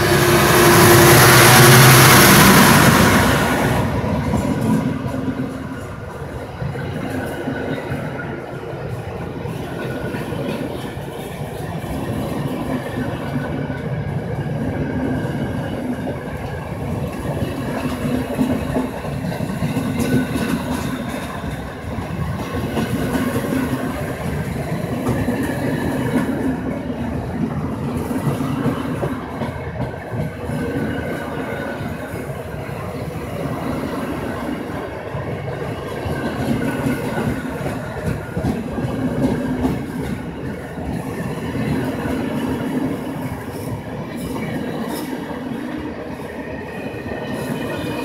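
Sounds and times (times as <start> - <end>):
freight train wheels rumbling and rattling: 0.0 - 48.0.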